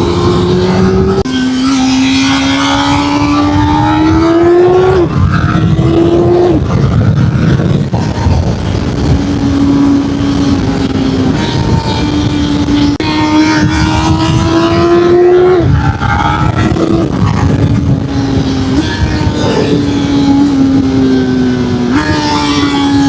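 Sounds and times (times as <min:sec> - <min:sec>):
motorcycle engine accelerating: 0:00.0 - 0:23.0
wind noise: 0:00.0 - 0:23.0.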